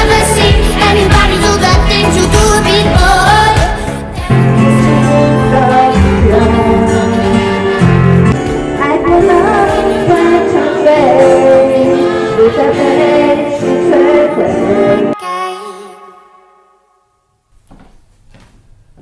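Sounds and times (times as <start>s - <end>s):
pop song with singing: 0.0s - 16.7s.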